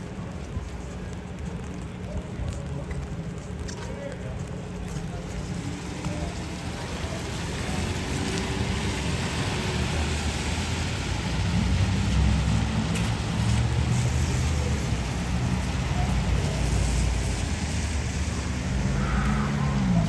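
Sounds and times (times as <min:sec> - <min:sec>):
vehicle engine rumble: 0:00.0 - 0:20.0
street traffic hiss: 0:03.7 - 0:20.0.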